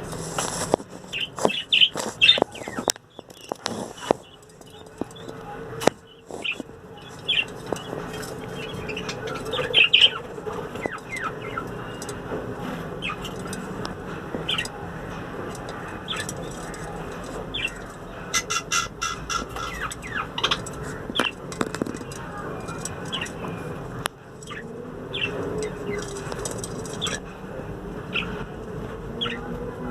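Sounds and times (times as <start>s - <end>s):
budgerigars chirping: 1.1s - 12.2s, 12.9s - 14.8s, 15.5s - 23.8s, 24.5s - 27.3s, 28.1s - 28.4s, 29.2s - 29.5s.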